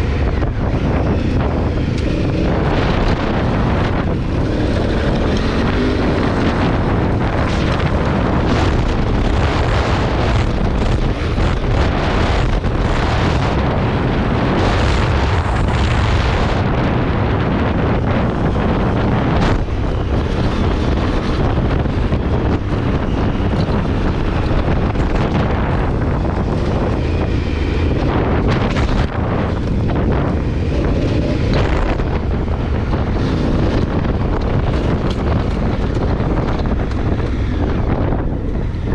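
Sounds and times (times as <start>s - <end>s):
motorcycle engine at speed: 0.0s - 38.9s
wind rushing over microphone: 0.0s - 38.9s.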